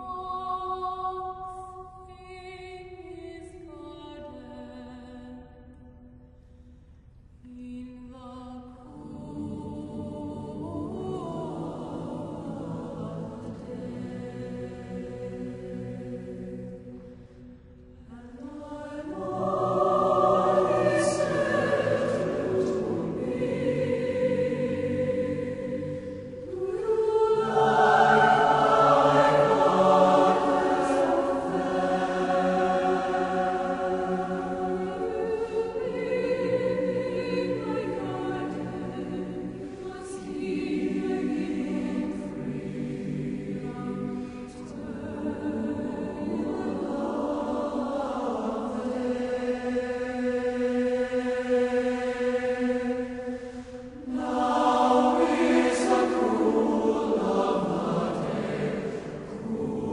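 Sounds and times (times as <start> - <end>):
choir singing: 0.0 - 5.4, 7.5 - 59.9.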